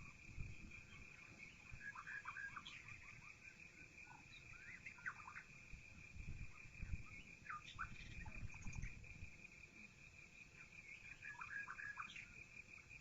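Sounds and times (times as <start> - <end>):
constant high-pitched drone: 0.0 - 13.0
songbirds chirping faintly: 0.0 - 13.0.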